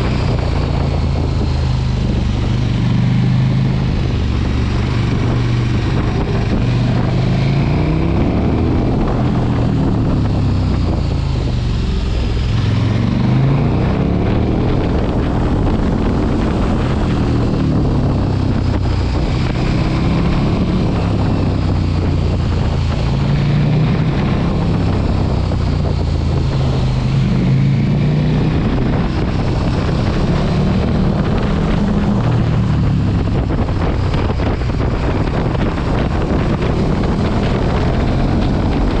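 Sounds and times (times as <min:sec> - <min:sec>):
motorcycle engine revving: 0:00.0 - 0:39.0
wind rushing over microphone: 0:00.0 - 0:39.0.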